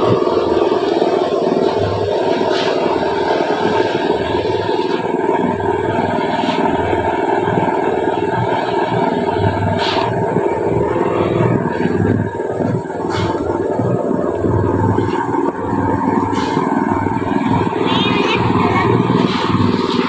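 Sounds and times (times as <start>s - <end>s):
concrete mixer engine droning: 0.0s - 20.0s.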